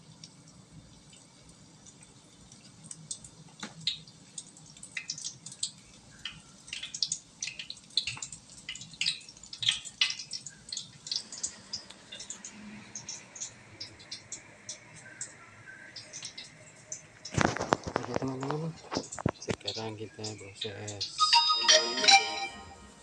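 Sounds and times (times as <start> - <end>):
hot oil crackling and popping: 0.0 - 21.3.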